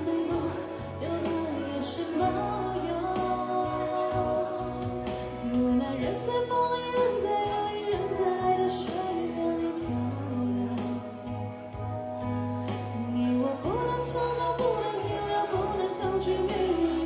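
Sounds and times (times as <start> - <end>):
instrumental backing track: 0.0 - 17.0
woman singing into microphone: 0.0 - 17.0.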